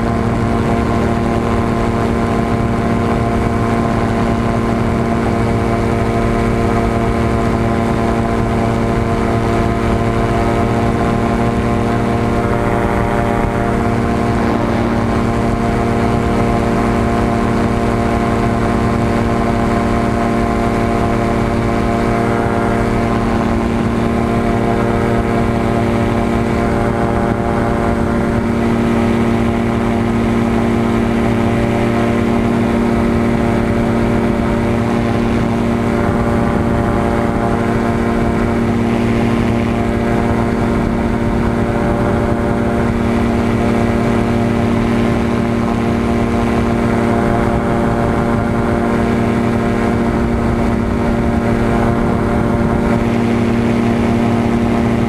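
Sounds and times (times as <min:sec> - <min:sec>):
aircraft engine and propeller: 0:00.0 - 0:55.0.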